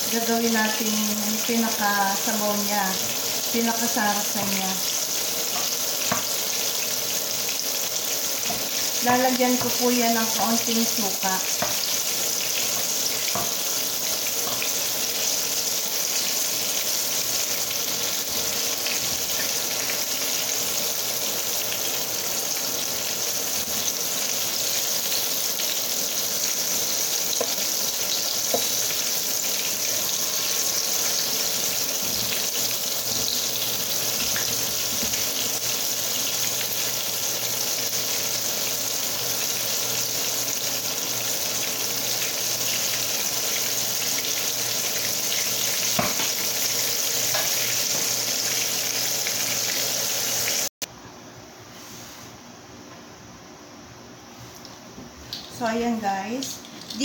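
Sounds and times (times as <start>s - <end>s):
chicken sizzling in oil: 0.0s - 50.9s.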